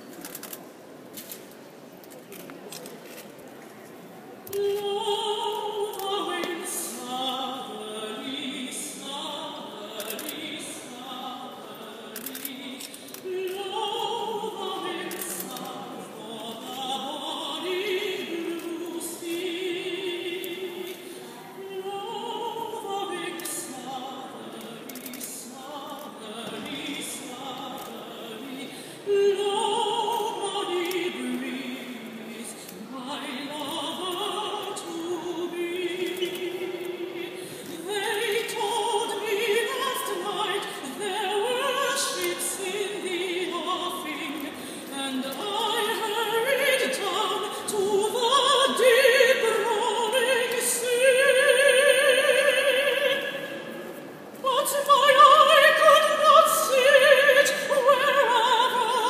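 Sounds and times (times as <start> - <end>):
woman singing opera: 4.5 - 59.0.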